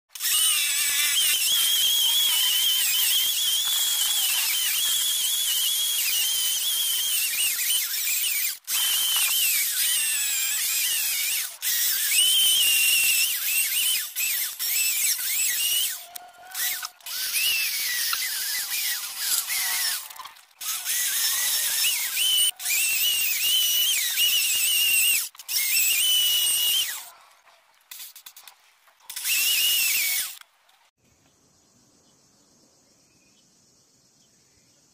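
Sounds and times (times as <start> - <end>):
wood cutting hiss: 0.1 - 27.0, 29.1 - 30.4
electric drill motor whine: 0.2 - 27.0, 29.2 - 30.4.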